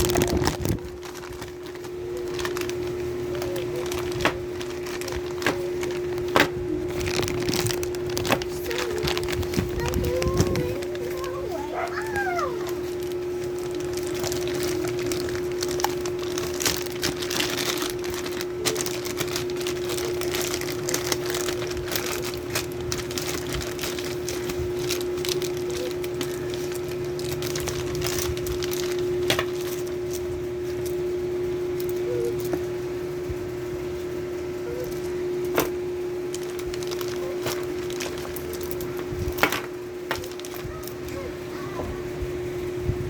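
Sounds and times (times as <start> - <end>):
packaging crinkling and cracking: 0.0 - 32.7, 34.6 - 41.2
steady hum: 0.0 - 43.0.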